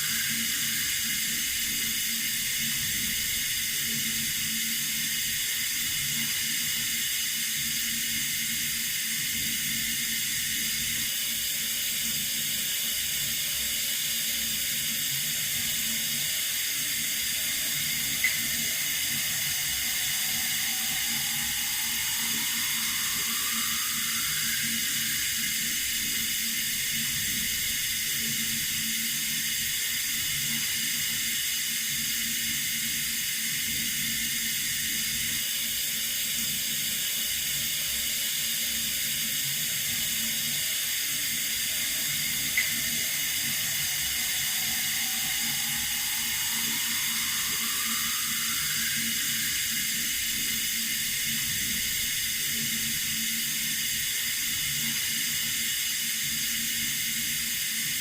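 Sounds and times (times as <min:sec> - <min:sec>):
water running from a tap: 0:00.0 - 0:35.2, 0:38.3 - 0:58.0.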